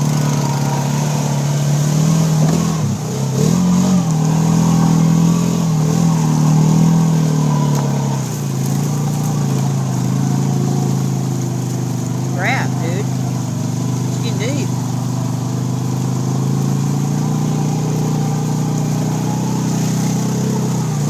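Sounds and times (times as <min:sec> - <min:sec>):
atv engine under load: 0:00.0 - 0:21.0.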